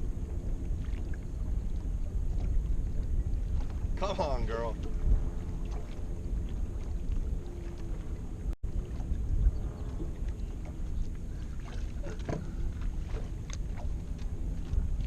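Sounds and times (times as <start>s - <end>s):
faint small splashes: 0.0s - 15.0s
wind and boat rumble: 0.0s - 15.0s.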